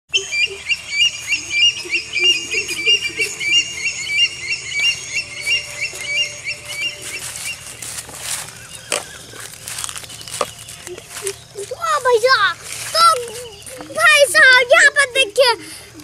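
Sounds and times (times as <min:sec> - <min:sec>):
bird lower warbling calls: 0:00.1 - 0:15.0
bird high chirping: 0:00.1 - 0:15.4.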